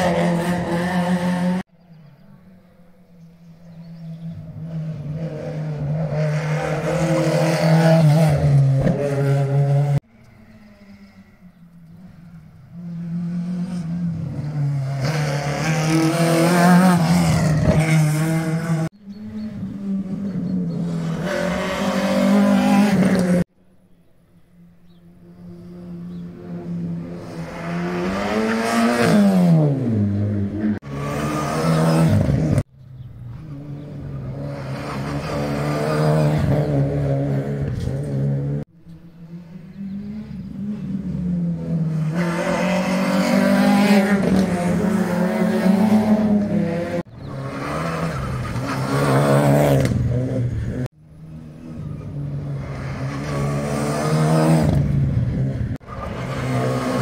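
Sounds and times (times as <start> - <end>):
rally car engines revving: 0.0 - 23.5, 24.5 - 57.0.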